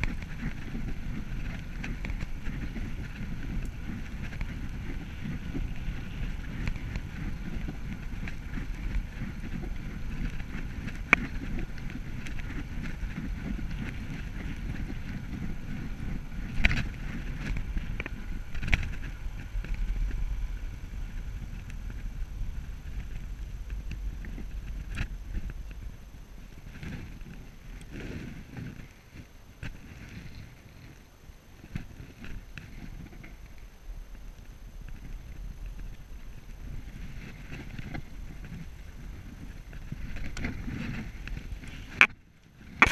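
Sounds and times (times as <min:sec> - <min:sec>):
bicycle tyre noise on tarmac: 0:00.0 - 0:42.9
wind on microphone: 0:00.0 - 0:42.9.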